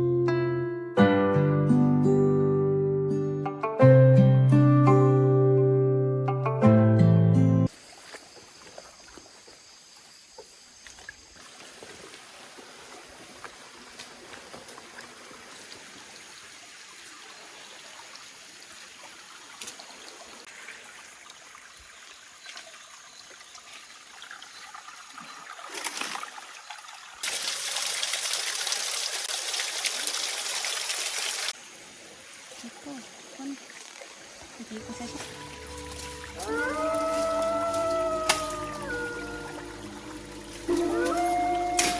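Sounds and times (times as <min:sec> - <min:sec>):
stream water trickling: 0:07.7 - 0:41.9.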